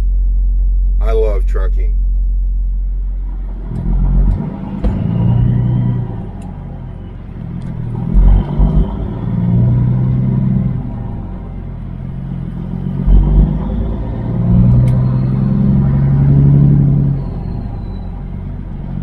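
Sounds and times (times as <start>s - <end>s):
heavy low thumps: 0.0s - 17.1s
diesel truck engine running: 0.0s - 19.0s.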